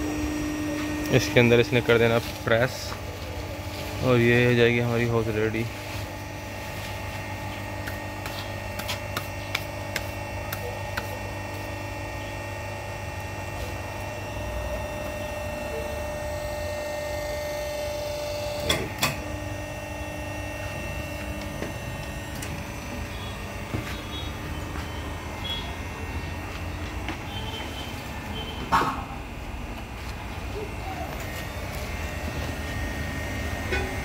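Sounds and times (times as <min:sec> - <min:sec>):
high machine whine: 0:00.0 - 0:34.0
hydraulic crimping machine humming: 0:00.0 - 0:34.0.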